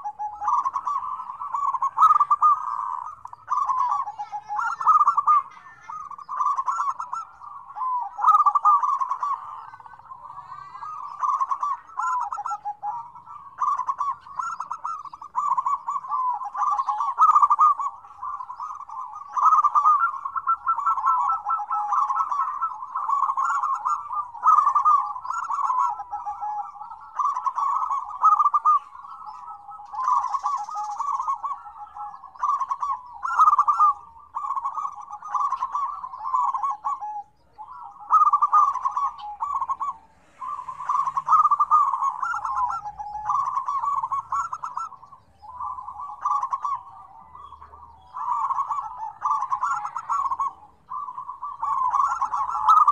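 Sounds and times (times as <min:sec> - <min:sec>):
doves cooing: 0:00.0 - 0:52.9.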